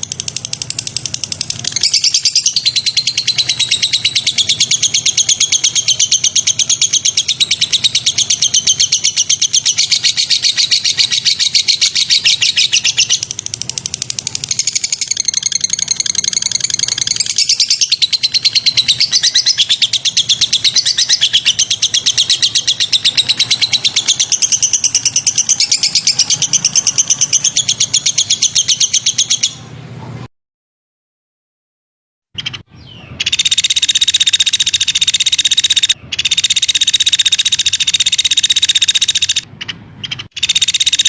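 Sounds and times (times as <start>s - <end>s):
high rapidly pulsing bird trill: 0.0s - 29.6s, 32.4s - 41.0s
songbird chattering trill: 0.0s - 29.6s, 32.4s - 41.0s.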